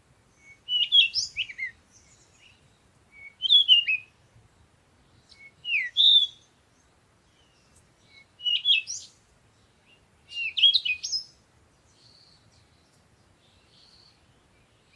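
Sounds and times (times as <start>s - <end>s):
songbirds whistling: 0.3s - 4.2s, 5.1s - 14.9s.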